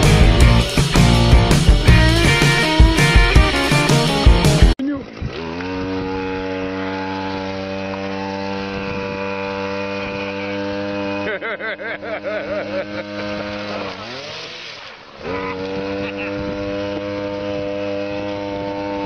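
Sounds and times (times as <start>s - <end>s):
buzzing motor drone: 0.0s - 19.0s.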